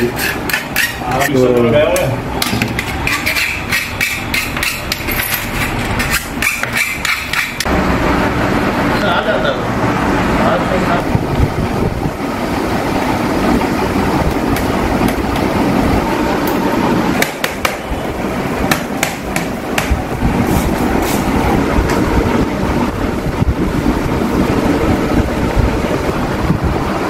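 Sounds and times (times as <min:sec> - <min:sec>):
loud rumbling background noise: 0:00.0 - 0:27.0.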